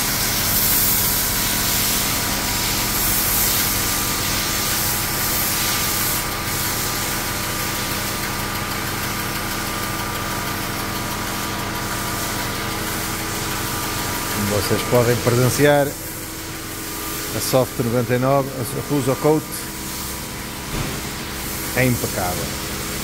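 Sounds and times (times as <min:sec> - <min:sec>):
hiss of spraying water: 0:00.0 - 0:08.3, 0:10.3 - 0:23.0
pressure washer motor hum: 0:00.0 - 0:23.0.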